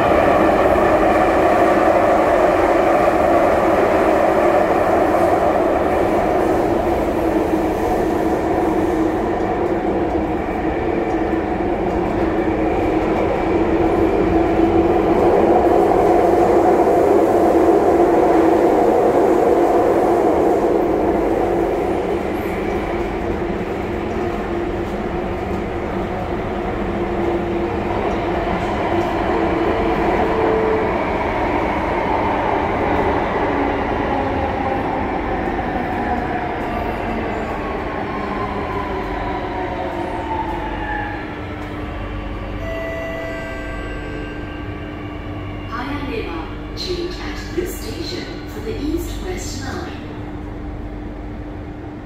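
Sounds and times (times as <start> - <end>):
metro train rumble and hum: 0.0 - 52.0.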